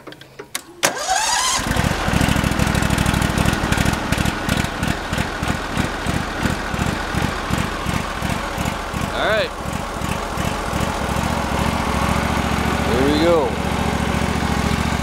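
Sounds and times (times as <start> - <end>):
engine cranking and running: 0.9 - 15.0.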